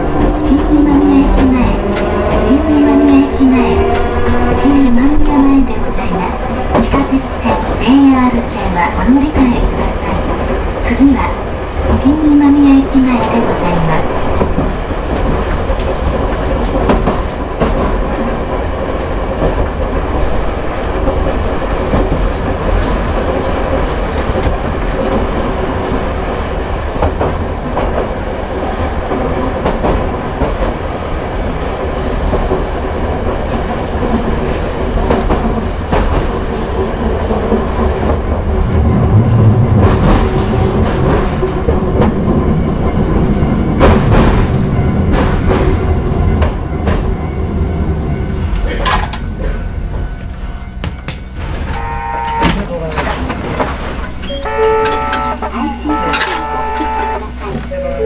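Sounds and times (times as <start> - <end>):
tram motor hum: 0.0 - 58.0.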